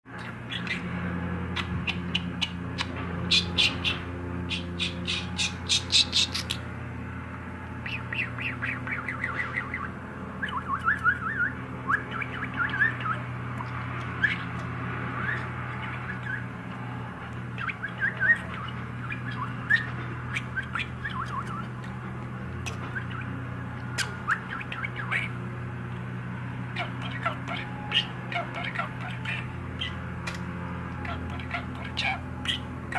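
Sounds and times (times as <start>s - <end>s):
budgerigar chattering: 0.1s - 6.7s, 7.8s - 25.5s, 26.6s - 32.9s
steady low hum: 0.1s - 32.9s.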